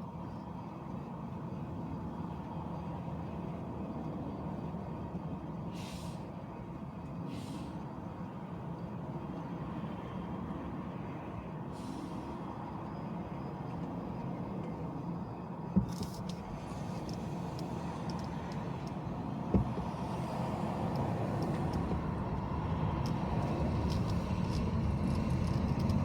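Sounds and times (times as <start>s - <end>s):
car driving in traffic: 0.0s - 26.0s.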